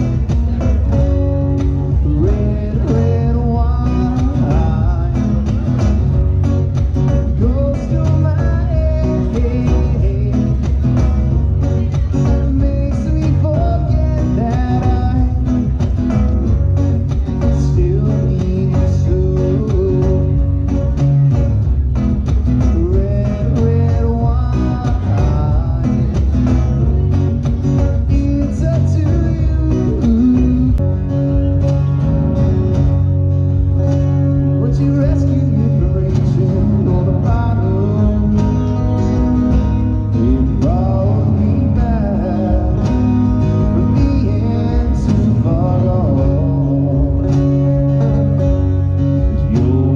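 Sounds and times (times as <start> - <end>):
electric guitar: 0.0 - 49.9
live band music: 0.0 - 49.9
strummed acoustic guitar: 0.0 - 49.9.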